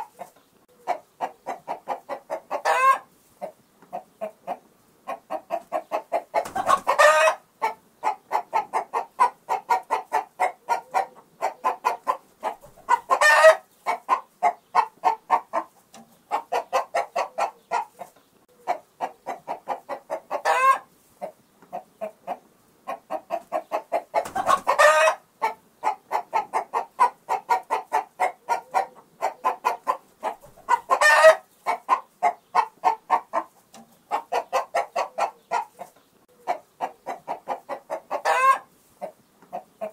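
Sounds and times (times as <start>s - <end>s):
chicken squawking: 0.0s - 3.1s, 4.0s - 15.7s, 16.3s - 20.9s, 21.8s - 33.5s, 34.1s - 38.7s
chickens clucking: 0.0s - 39.9s.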